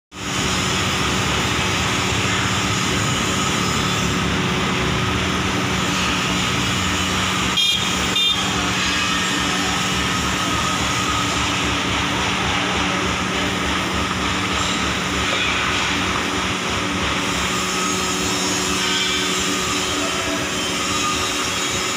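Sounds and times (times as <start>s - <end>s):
grinding machine humming: 0.1s - 21.9s.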